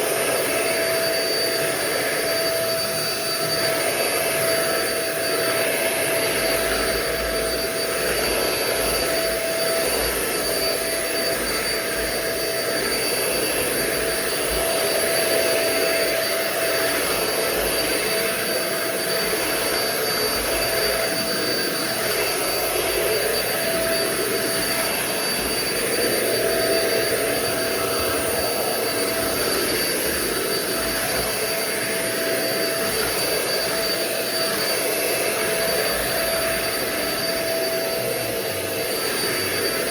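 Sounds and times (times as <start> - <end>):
stick vacuum motor whine: 0.0 - 39.9.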